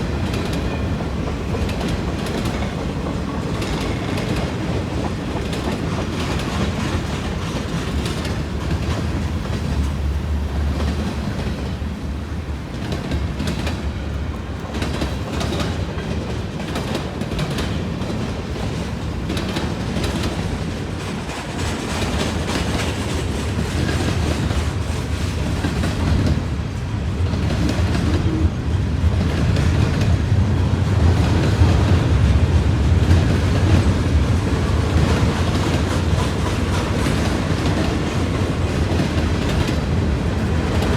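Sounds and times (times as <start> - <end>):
train wheels clacking over rail joints: 0.0 - 28.5, 29.1 - 40.9
freight train rumble: 0.0 - 40.9.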